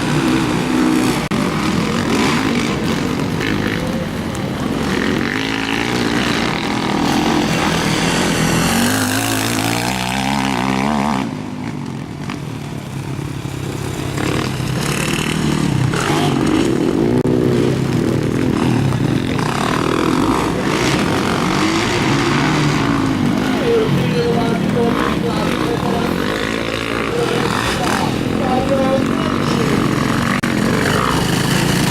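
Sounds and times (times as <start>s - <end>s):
motocross engines revving: 0.0s - 31.9s.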